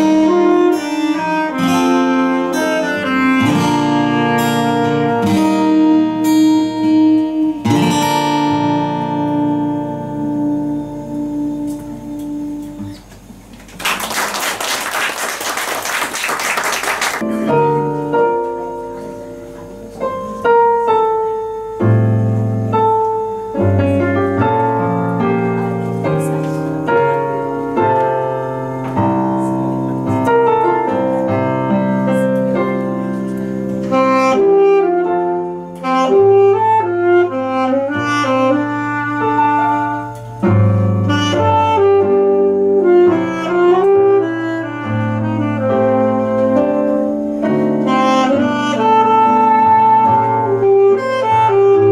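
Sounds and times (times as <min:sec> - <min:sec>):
saxophone slow melody: 0:00.0 - 0:13.1, 0:16.4 - 0:51.9
keyboard piano chords: 0:00.0 - 0:13.6, 0:17.0 - 0:51.9.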